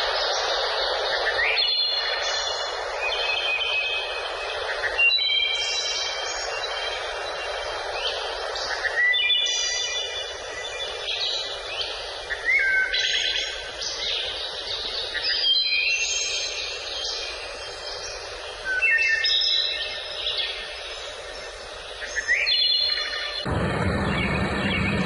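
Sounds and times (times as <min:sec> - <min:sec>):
songbirds chirping and trilling: 0:00.0 - 0:25.0
steady background hiss: 0:00.0 - 0:25.0.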